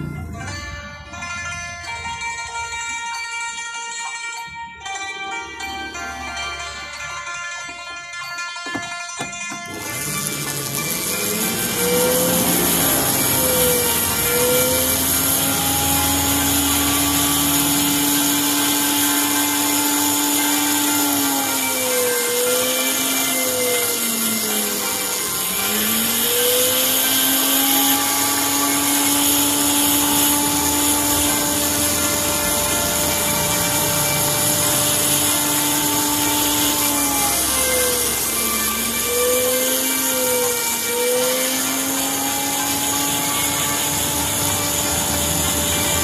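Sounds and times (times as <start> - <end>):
rotary tool grinding quartz: 5.4 - 46.0.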